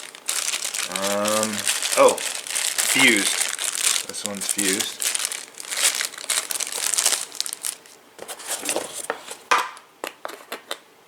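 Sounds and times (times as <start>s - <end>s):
packaging crinkling and rustling: 0.0s - 9.5s.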